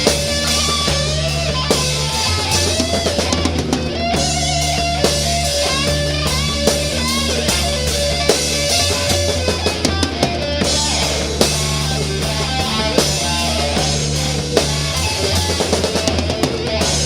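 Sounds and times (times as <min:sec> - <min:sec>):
drum kit beat: 0:00.0 - 0:17.0
electric guitar melody: 0:00.0 - 0:17.0
sustained bass notes: 0:00.0 - 0:17.0.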